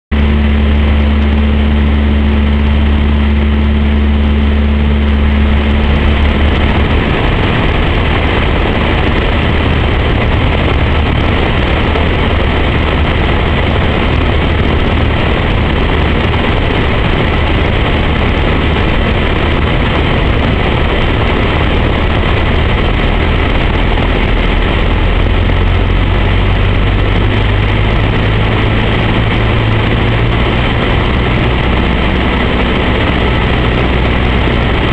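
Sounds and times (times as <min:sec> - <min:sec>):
airplane engine and propeller drone: 0:00.1 - 0:34.9.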